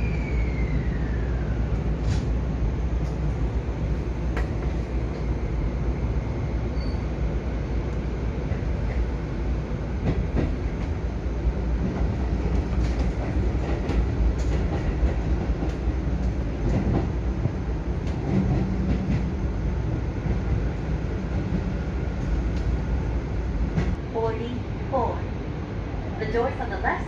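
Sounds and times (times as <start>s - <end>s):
train cabin rumble: 0.0s - 27.0s.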